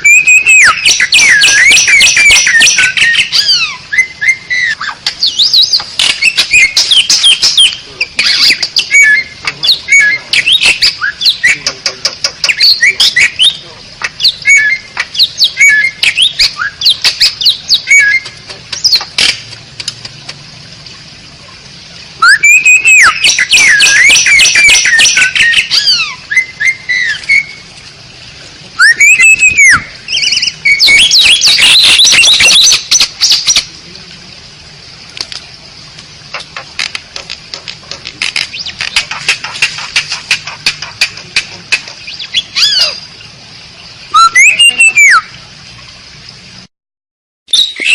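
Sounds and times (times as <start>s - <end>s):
harsh chattering birdsong: 0.0s - 20.4s, 22.2s - 34.0s, 35.0s - 45.3s
starling singing clicks and whistles: 0.0s - 20.4s, 22.2s - 27.6s, 28.8s - 33.7s, 35.1s - 43.0s, 44.1s - 45.3s, 47.5s - 47.9s.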